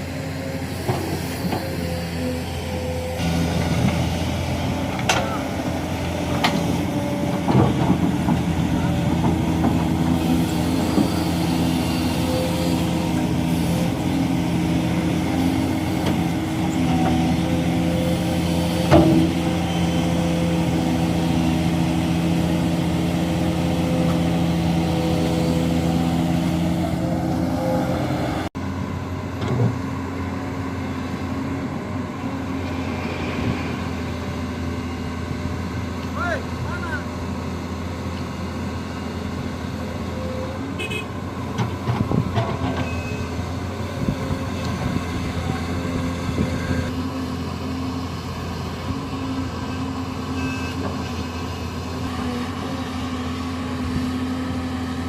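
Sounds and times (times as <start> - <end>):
excavator diesel engine running: 0.0 - 55.0
quieter engine running: 0.0 - 55.0.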